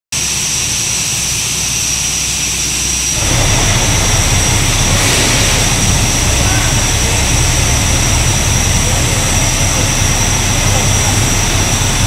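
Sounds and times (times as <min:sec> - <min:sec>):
heavy engine drone: 0:00.1 - 0:12.0
thin high whine: 0:00.2 - 0:12.0.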